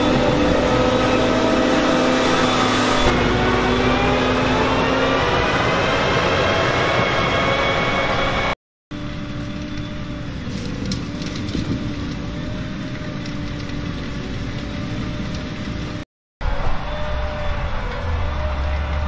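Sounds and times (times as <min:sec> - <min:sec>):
harvester engine drone: 0:00.0 - 0:19.0.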